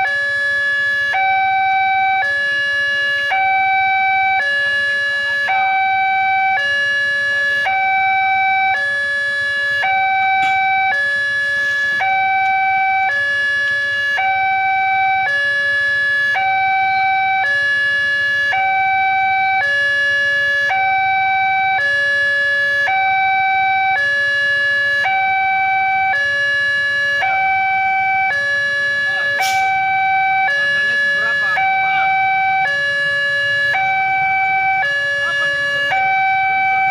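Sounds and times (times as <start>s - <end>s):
level crossing two-tone alarm: 0.0s - 36.9s.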